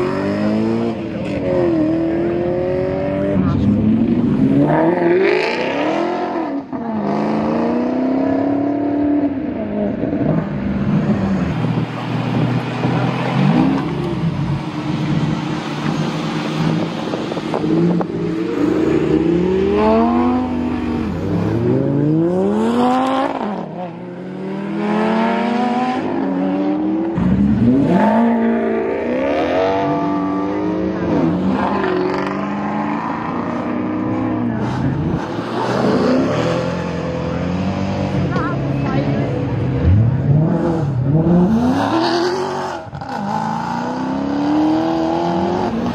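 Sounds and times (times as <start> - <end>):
sports car engines revving: 0.0 - 45.9.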